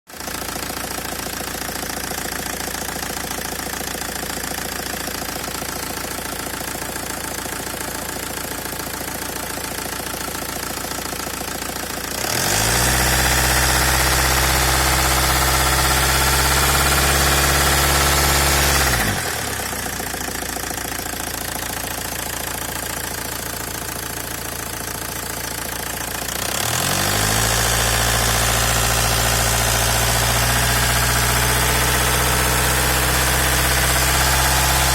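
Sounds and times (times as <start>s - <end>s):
diesel engine idling and revving: 0.2s - 34.9s.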